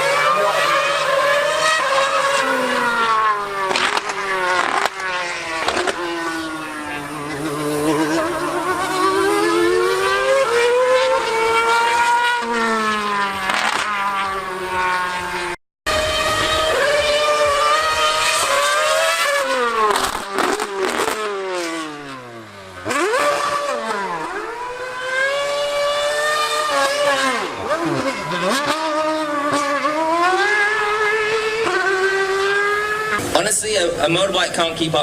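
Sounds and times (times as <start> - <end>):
race car engine high-revving: 0.0 - 35.0.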